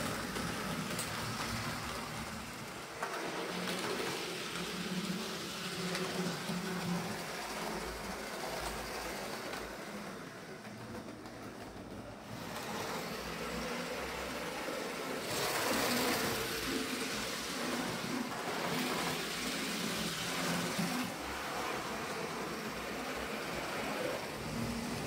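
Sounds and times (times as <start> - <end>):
model train motor whirring: 0.0 - 25.0.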